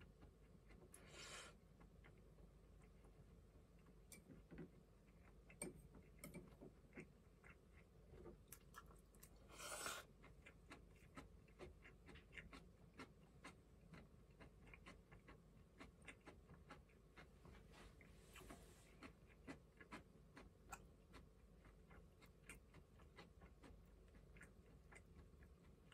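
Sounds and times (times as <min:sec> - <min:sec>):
quiet chewing: 0:00.0 - 0:25.9.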